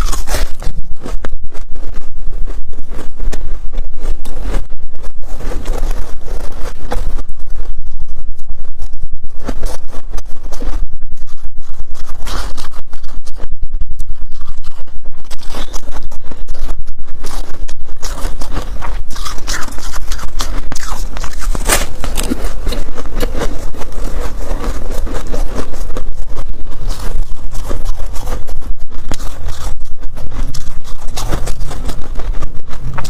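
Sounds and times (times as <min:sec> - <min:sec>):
freezer frost scraping and crunching: 0:00.0 - 0:07.8, 0:11.8 - 0:13.4, 0:14.1 - 0:33.0.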